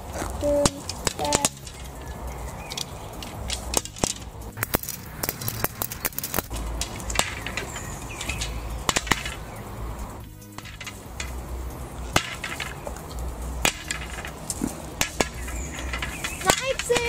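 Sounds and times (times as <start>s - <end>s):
wooden sticks clicking together: 0.2s - 17.0s.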